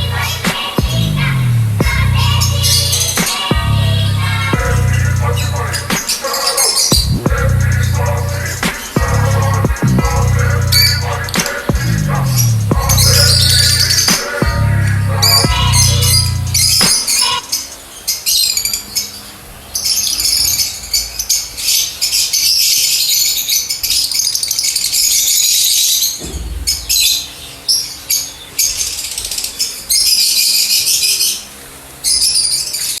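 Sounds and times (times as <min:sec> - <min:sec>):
lovebirds chirping and screeching: 0:00.0 - 0:33.0.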